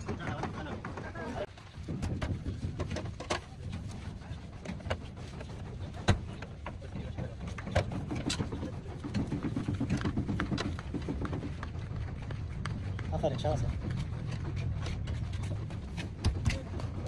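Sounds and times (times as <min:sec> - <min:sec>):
steady low rumble: 0:00.6 - 0:17.0.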